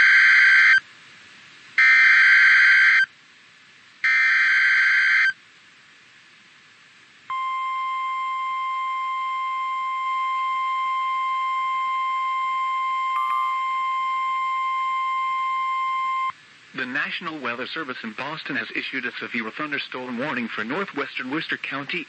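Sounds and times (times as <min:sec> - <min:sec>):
faint radio hiss: 0:00.0 - 0:22.0.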